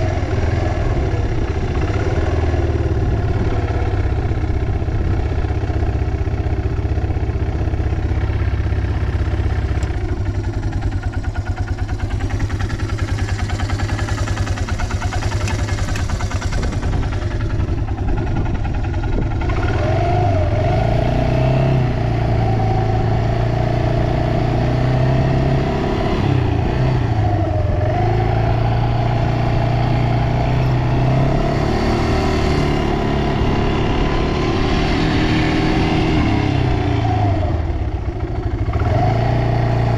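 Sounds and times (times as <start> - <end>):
atv engine idling and revving: 0.0 - 39.9.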